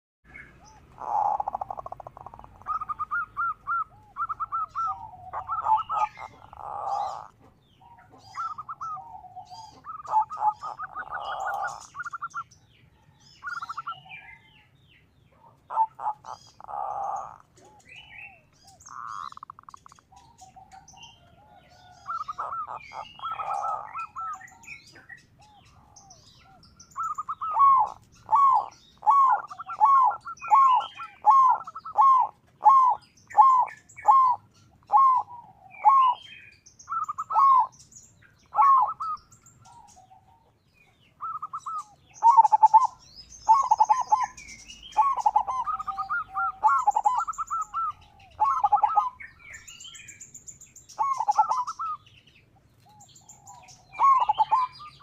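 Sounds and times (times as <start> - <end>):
small birds chirping: 0.2 - 55.0
dove cooing: 0.3 - 14.7, 15.3 - 50.2, 50.9 - 52.1, 52.8 - 55.0.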